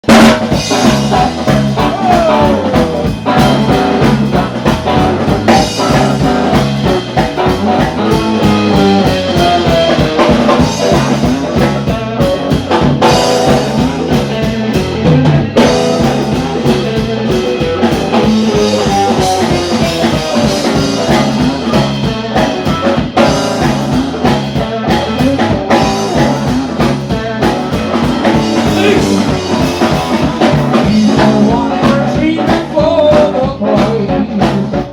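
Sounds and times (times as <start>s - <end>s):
blues-rock band playing: 0.0s - 34.9s.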